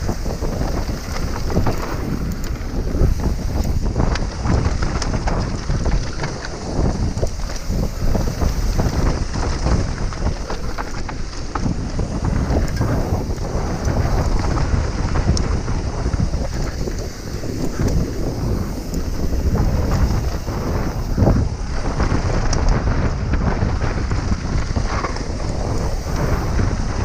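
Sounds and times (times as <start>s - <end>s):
bike clicks and rattles: 0.0s - 27.0s
tyres rumbling on dirt: 0.0s - 27.0s
wind buffeting microphone: 0.0s - 27.0s.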